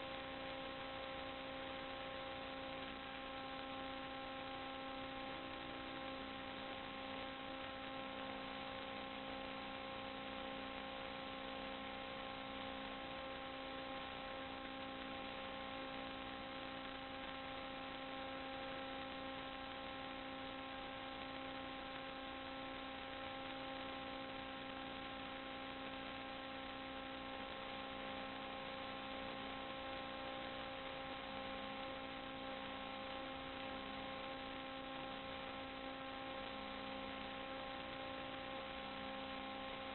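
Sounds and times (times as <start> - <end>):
constant hiss: 0.0 - 39.9
electrical hum: 0.0 - 39.9.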